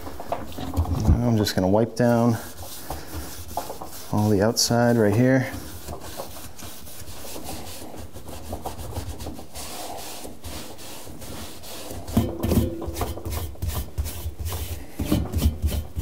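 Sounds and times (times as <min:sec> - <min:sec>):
paper towel rubbing rubber seal: 0:00.0 - 0:16.0.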